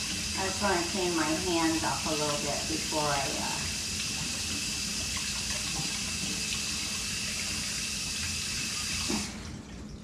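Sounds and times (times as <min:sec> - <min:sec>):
faucet running: 0:00.0 - 0:10.0.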